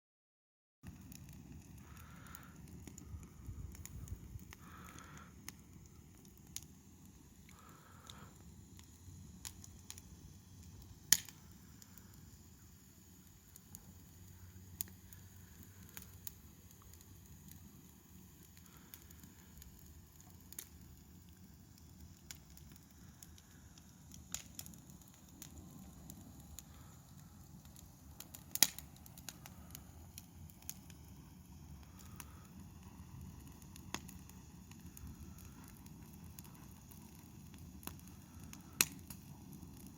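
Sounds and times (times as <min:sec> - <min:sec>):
wood fire crackling: 0:00.8 - 0:39.9.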